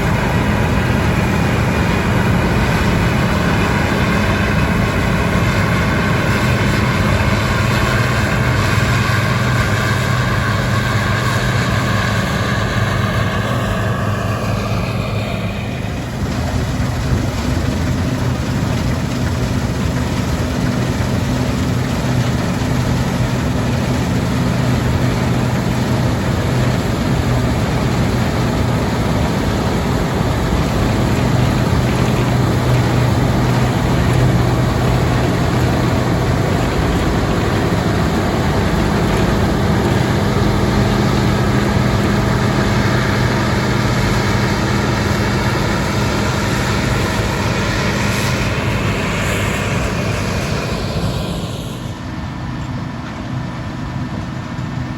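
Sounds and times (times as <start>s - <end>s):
diesel machinery running: 0.0s - 54.9s
high machine whine: 0.0s - 54.9s.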